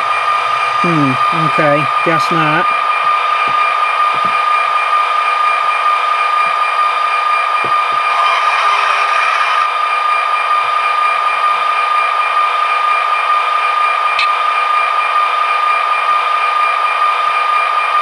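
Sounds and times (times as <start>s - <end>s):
model locomotive diesel sound: 0.0s - 18.0s.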